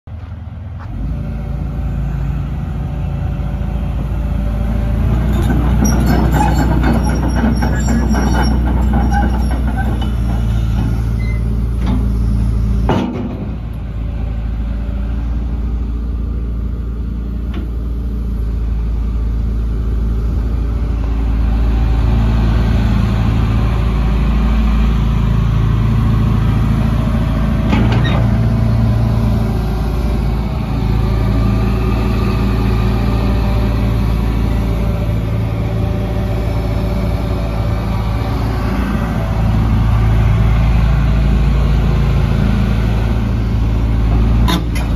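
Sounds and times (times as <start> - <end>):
excavator diesel engine running: 0.1 - 44.9.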